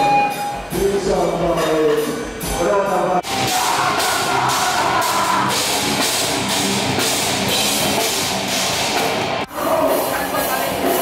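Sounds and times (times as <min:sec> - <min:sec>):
rock music with drums: 0:00.0 - 0:11.0.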